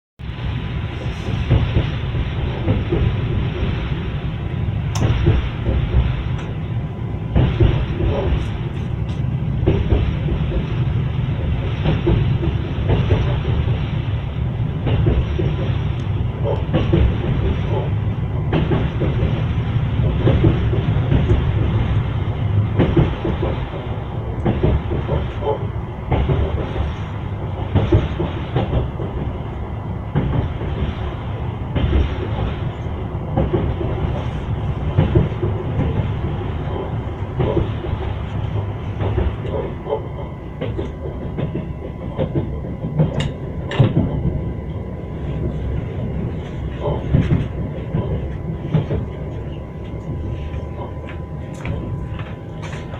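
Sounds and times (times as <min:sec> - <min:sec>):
train wheels clattering over rail joints: 0:00.8 - 0:52.9.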